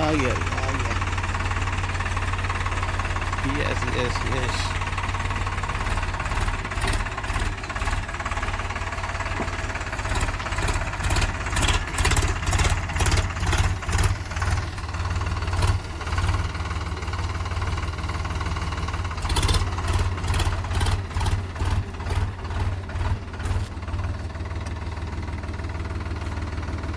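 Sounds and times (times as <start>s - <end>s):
tractor diesel engine throbbing: 0.0s - 26.9s.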